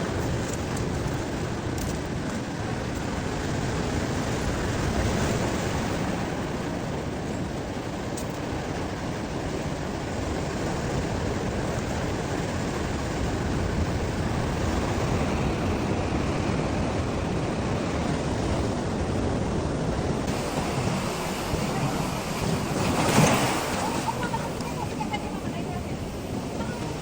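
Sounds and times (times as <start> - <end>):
ocean surf washing ashore: 0.0 - 27.0.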